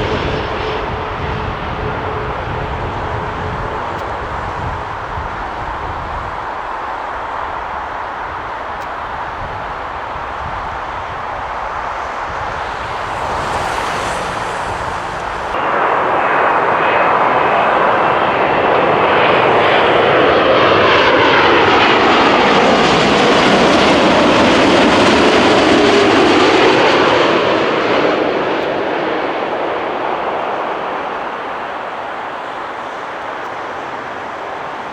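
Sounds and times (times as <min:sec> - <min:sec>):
jet airliner roaring past: 0:00.0 - 0:34.9
jet engine whine falling in pitch: 0:00.0 - 0:34.9.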